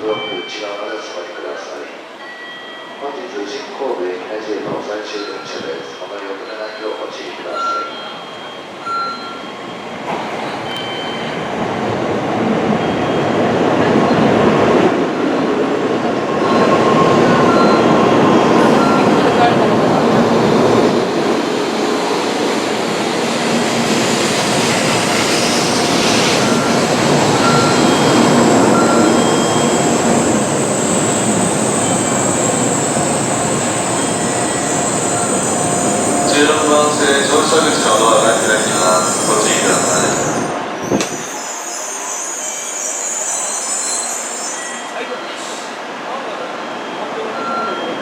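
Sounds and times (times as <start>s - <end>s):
train running noise: 7.6s - 48.0s.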